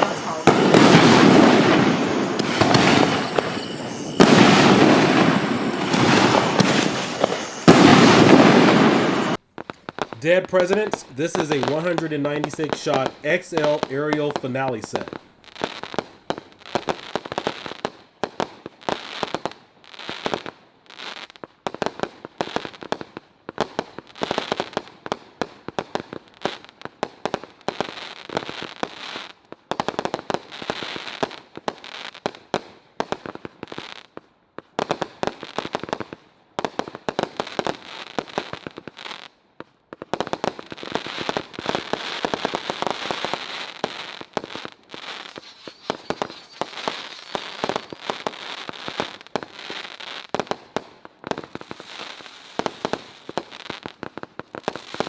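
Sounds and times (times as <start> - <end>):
fireworks barrage bursting with crackle: 0.0 - 26.2, 34.8 - 55.0.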